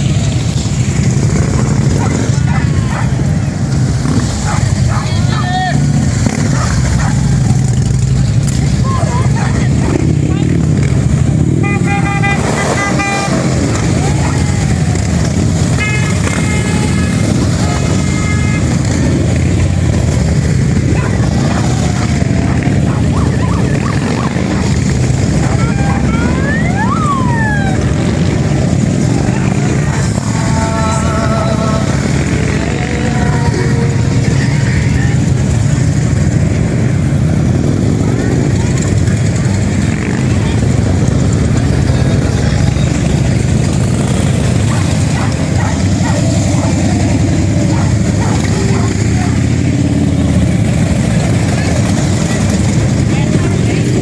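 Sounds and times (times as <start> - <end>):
motorcycle engines rumbling: 0.0 - 54.0.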